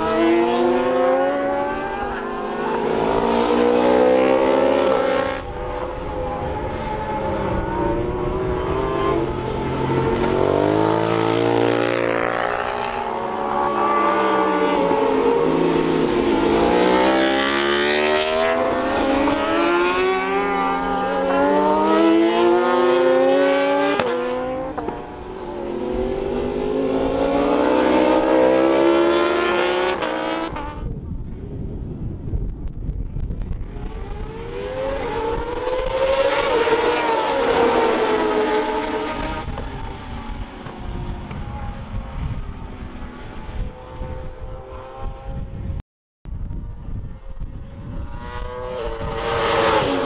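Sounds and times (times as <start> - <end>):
racing motorcycles passing: 0.0 - 30.9, 33.8 - 45.8, 46.7 - 50.0.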